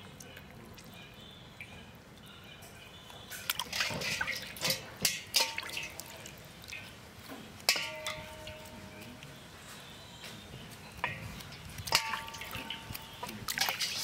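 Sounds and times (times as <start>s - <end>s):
water splashing and dripping: 0.0s - 14.0s.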